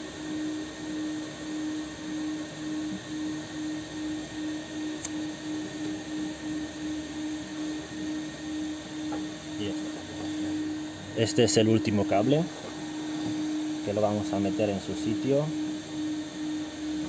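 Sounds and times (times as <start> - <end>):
pulsing low machine hum: 0.0 - 17.0.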